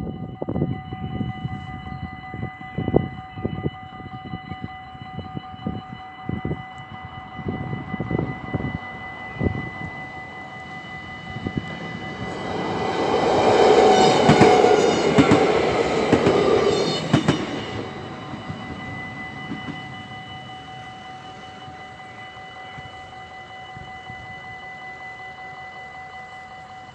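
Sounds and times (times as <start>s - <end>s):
crossing warning bell ringing: 0.0s - 26.9s.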